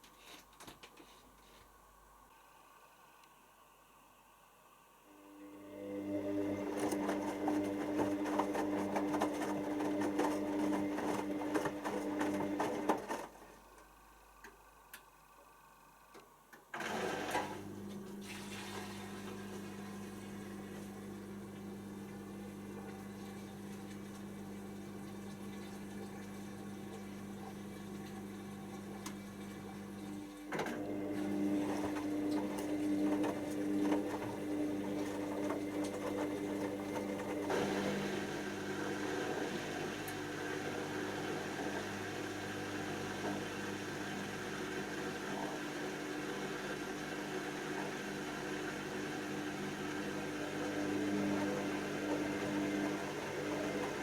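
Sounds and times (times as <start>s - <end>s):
washing machine motor hum: 4.9s - 54.0s.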